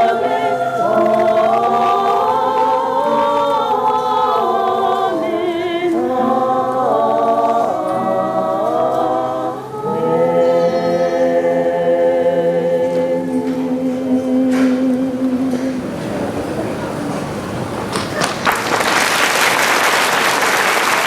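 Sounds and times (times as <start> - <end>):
choir singing: 0.0 - 18.2.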